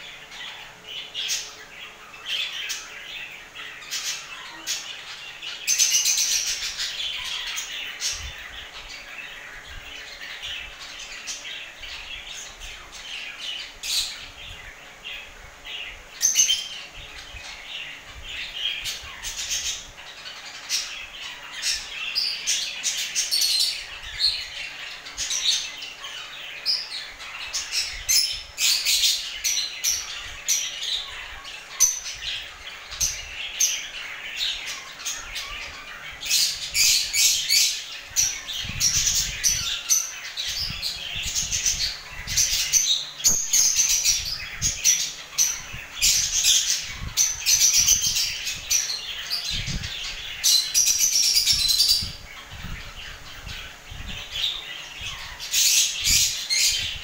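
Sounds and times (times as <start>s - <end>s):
birds chattering and squawking: 0.0s - 57.0s.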